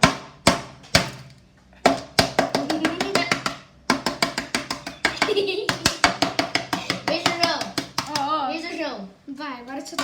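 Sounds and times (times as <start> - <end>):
wooden spoon pounding cookies: 0.0 - 8.4.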